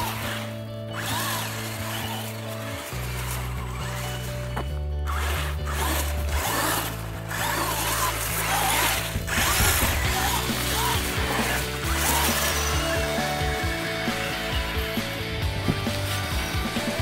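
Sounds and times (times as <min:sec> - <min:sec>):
background music with bass notes: 0:00.0 - 0:17.0
toy truck electric motor whining: 0:00.0 - 0:17.0.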